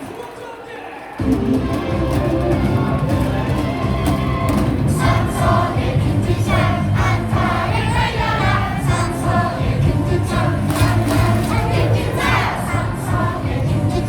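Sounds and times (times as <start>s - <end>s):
crowd singing in unison: 0.9s - 14.0s.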